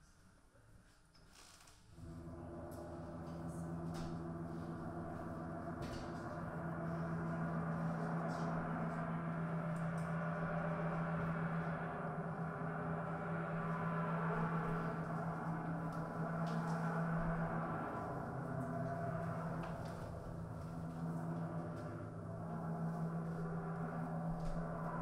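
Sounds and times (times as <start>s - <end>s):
bowed guitar drone: 2.0s - 25.0s.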